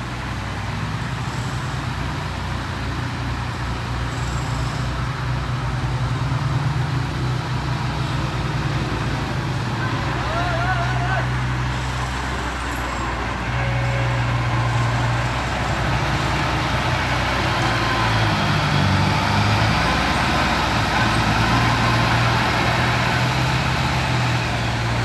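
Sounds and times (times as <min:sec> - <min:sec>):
construction machine engine running: 0:00.0 - 0:25.0.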